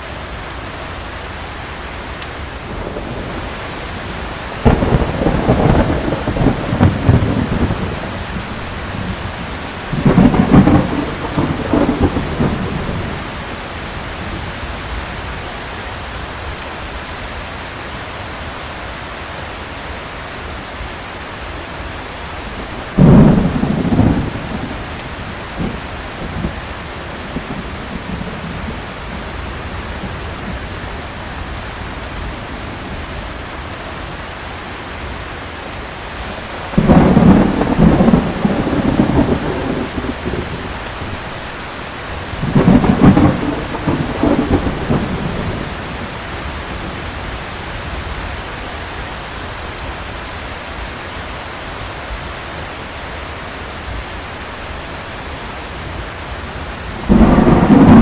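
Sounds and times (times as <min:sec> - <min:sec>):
thunder rumbling: 0:00.0 - 0:17.3, 0:21.7 - 0:51.0, 0:55.1 - 0:58.0
heavy rain: 0:00.0 - 0:58.0.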